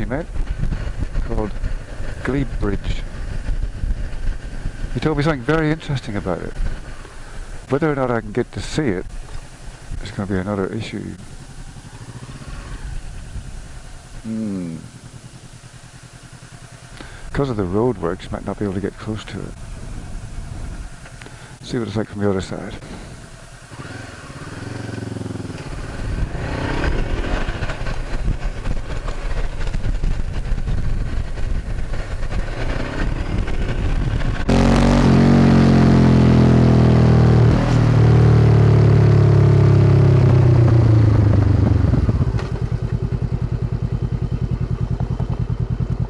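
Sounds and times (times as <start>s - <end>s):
motorcycle engine idling: 0.0s - 46.0s
motorcycle engine riding and slowing: 0.0s - 46.0s.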